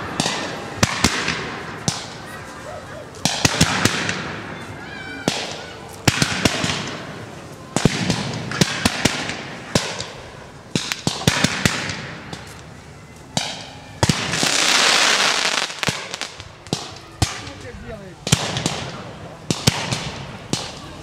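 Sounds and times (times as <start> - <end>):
firecrackers banging: 0.0 - 21.0.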